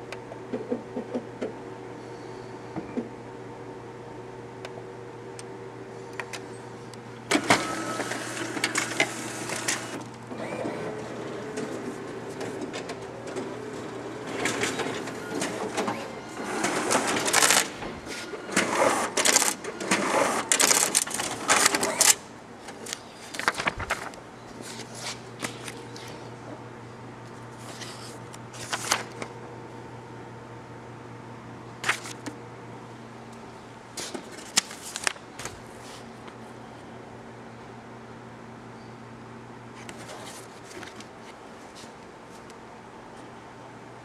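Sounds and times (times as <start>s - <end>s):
copier whirring and clattering: 0.0s - 2.0s, 2.7s - 36.8s, 39.7s - 44.0s.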